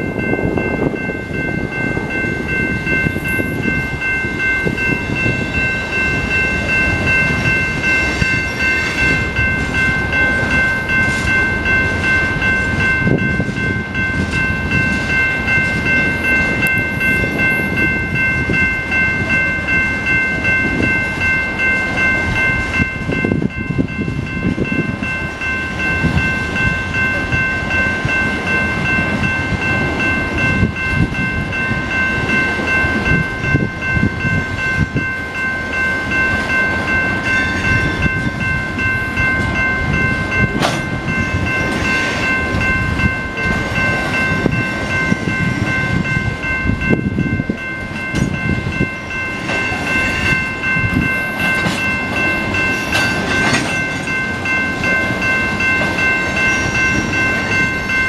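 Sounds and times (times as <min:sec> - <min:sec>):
crossing warning bell ringing: 0:00.0 - 0:58.0
train wheels rumbling on rails: 0:00.0 - 0:58.0.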